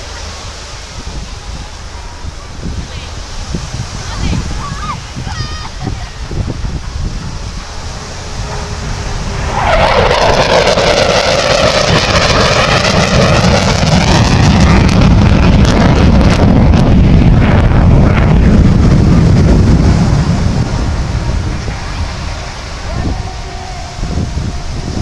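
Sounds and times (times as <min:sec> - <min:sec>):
jet engine roar flying past: 0:00.0 - 0:25.0.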